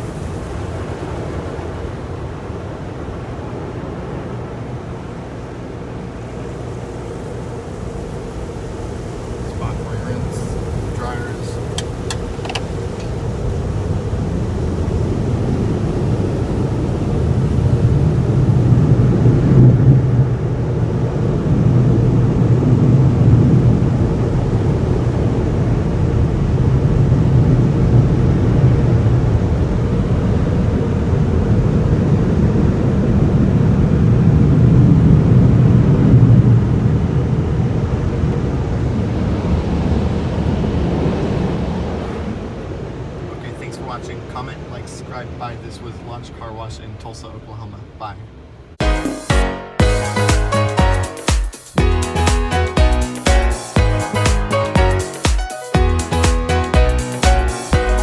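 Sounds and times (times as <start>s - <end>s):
car wash dryers blowing air: 0.0s - 49.1s, 49.8s - 58.0s.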